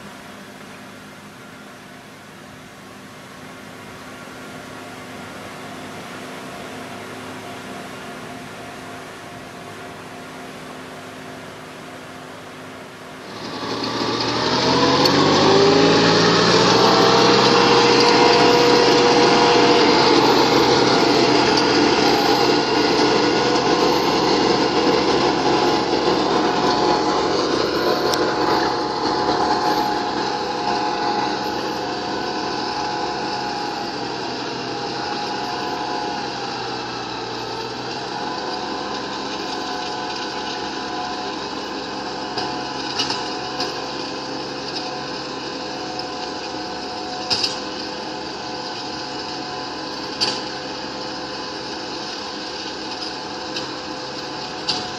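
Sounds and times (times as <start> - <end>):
tractor engine under load: 0.0 - 54.9
rotary tiller churning soil: 10.8 - 54.9.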